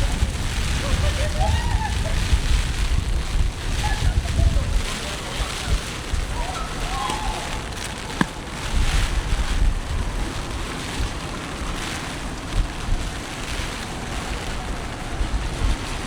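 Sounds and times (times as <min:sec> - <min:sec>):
wind buffeting microphone: 0:00.0 - 0:16.0
wind-driven rain hissing: 0:00.0 - 0:16.0.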